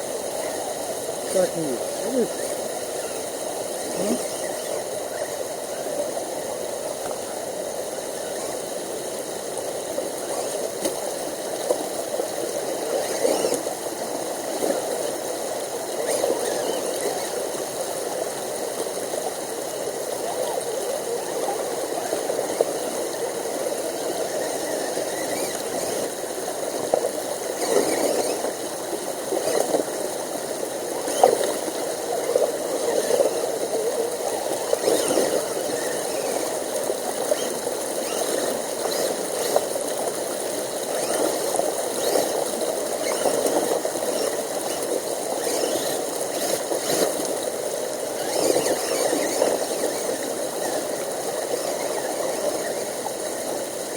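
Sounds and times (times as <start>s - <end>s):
brook running: 0.0s - 53.9s.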